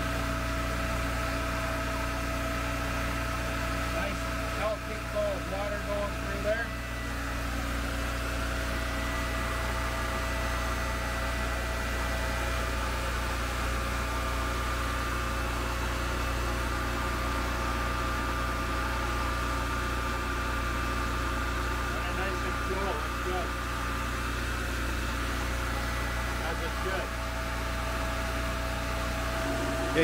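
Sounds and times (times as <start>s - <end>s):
generator running steadily: 0.0s - 30.0s.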